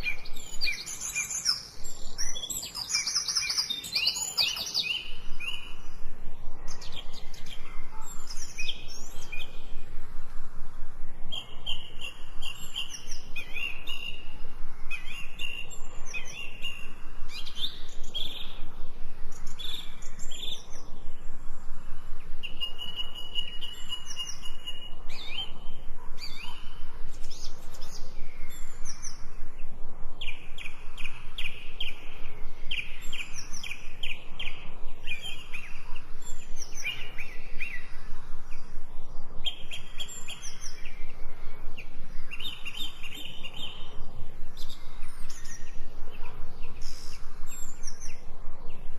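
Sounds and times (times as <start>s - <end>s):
faint background hiss: 0.0s - 48.9s
songbirds chirping and singing: 0.0s - 48.9s.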